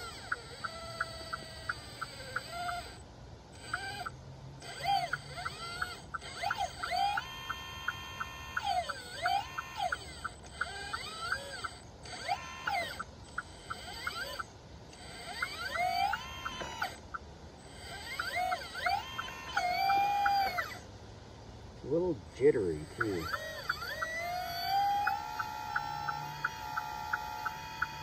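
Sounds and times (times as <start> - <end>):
hydraulic pump motor whining: 0.0 - 21.0, 21.8 - 28.0.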